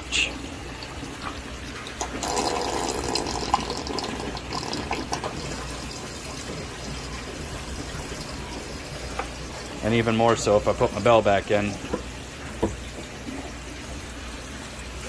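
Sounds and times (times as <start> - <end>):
water draining down pipe: 0.0 - 15.0.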